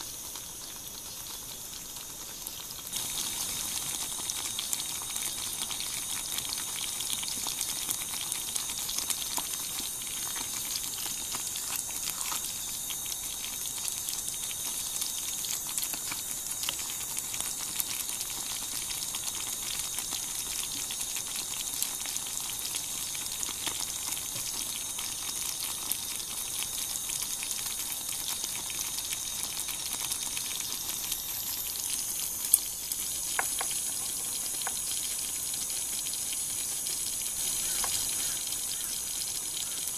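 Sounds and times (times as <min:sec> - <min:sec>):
stew simmering with pops: 0:00.0 - 0:39.9.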